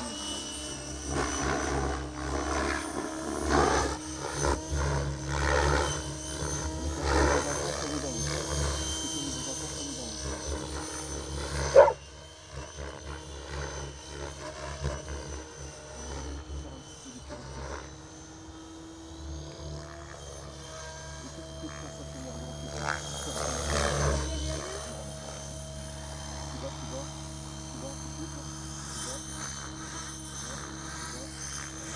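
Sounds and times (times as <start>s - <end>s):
model helicopter rotor drone: 0.0s - 31.9s.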